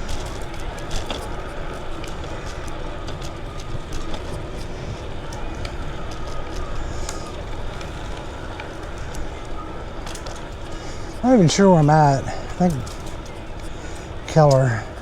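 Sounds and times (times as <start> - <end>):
bicycle tyres rolling: 0.0 - 15.0
small clicks and rattles: 0.0 - 15.0.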